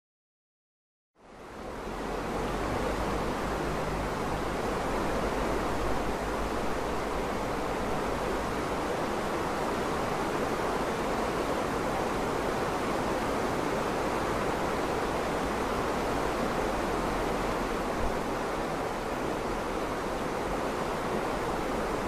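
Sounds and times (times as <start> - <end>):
steady rushing noise: 1.2 - 22.0.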